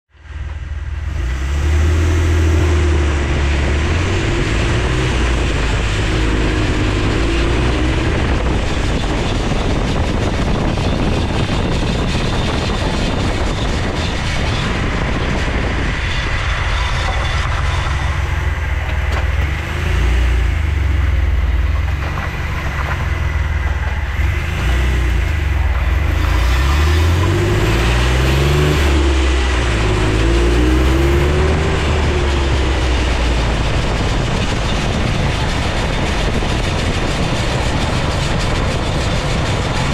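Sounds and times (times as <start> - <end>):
car engine and drivetrain: 0.1 - 39.9
road noise: 0.1 - 39.9.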